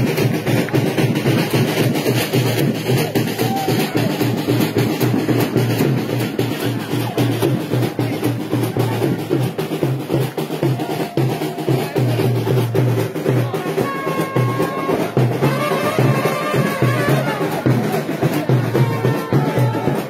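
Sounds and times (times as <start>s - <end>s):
festival drumming: 0.0s - 20.0s.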